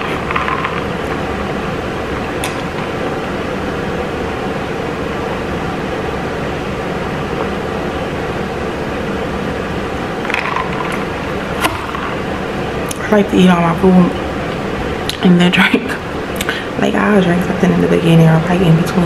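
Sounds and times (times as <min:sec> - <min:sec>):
mechanical hum and hiss: 0:00.0 - 0:19.0.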